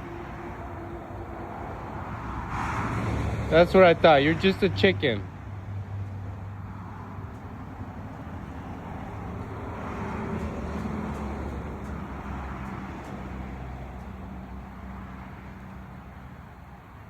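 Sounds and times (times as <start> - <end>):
vehicle passing by: 0.0 - 16.8.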